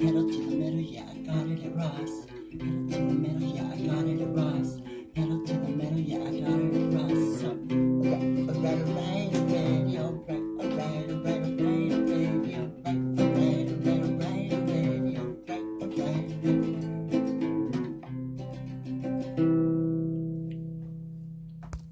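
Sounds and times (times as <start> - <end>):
acoustic guitar strummed and plucked: 0.0 - 21.4.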